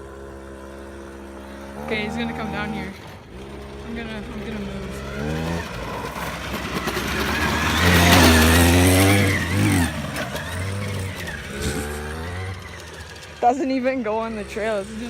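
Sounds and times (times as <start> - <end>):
small motorbike passing: 0.0 - 15.0.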